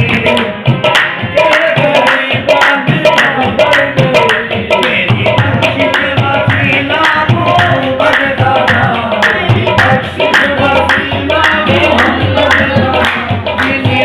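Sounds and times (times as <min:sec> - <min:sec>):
hand claps: 0:00.0 - 0:14.0
harmonium: 0:00.0 - 0:14.0
men singing: 0:00.0 - 0:14.0.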